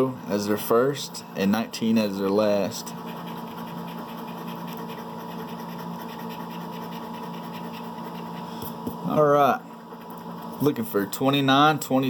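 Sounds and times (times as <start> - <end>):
scratch-off ticket rasping: 1.9 - 12.0.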